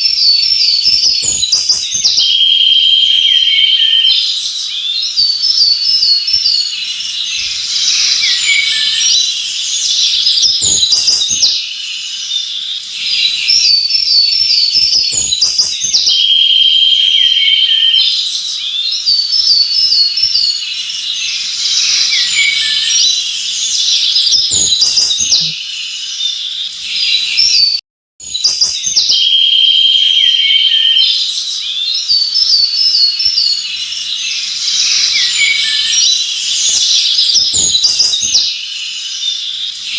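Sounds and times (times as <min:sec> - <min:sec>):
high bird trill: 0:00.0 - 0:39.9
songbirds chirping and singing: 0:00.0 - 0:39.9.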